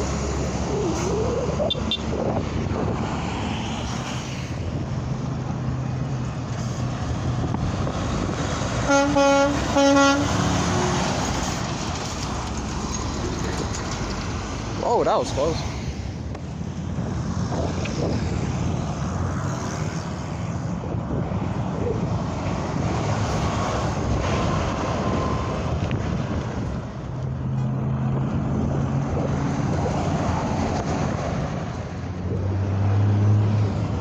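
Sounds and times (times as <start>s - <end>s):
highway traffic: 0.0s - 34.0s
truck engine drone: 0.0s - 34.0s.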